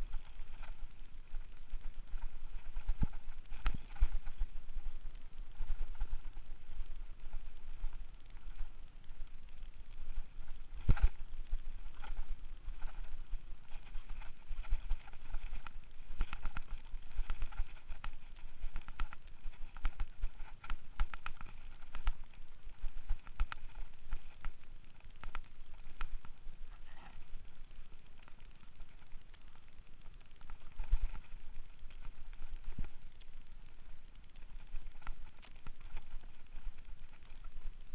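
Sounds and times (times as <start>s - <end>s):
mountain bike rattling over trail: 0.0s - 37.9s.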